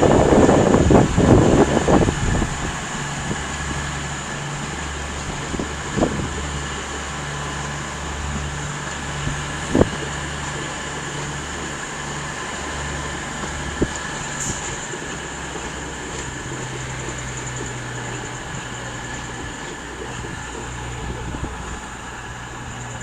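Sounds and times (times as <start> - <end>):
diesel train engine idling: 0.0 - 23.0
noisy rush: 0.0 - 23.0.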